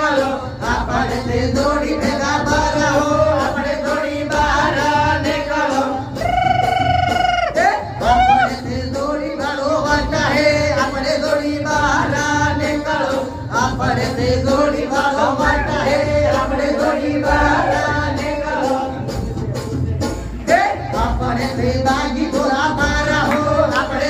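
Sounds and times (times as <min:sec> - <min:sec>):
man singing into microphone: 0:00.0 - 0:19.2, 0:20.4 - 0:24.0
backing music with steady beat: 0:00.0 - 0:24.0.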